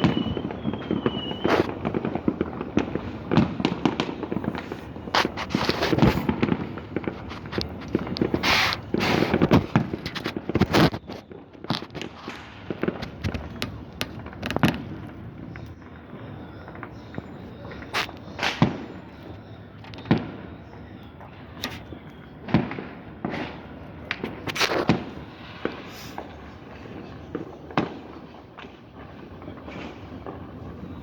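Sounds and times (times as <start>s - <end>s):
fireworks and firecrackers banging: 0.0s - 31.0s.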